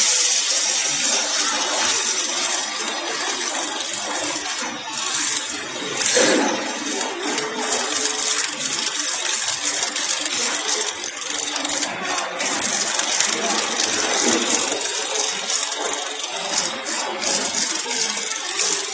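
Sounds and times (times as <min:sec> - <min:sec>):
machine and bottles clattering: 0:00.0 - 0:18.9.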